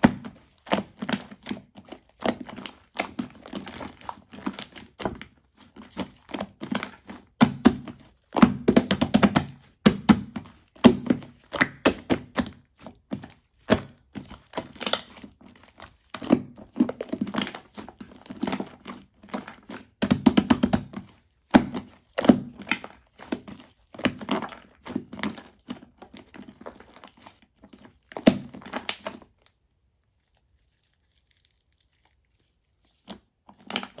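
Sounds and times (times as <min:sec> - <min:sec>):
slime squished by hand: 0:00.0 - 0:34.0.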